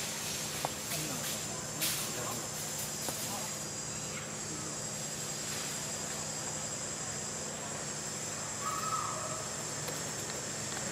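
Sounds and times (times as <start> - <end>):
high-pitched insect drone: 0.0 - 10.9.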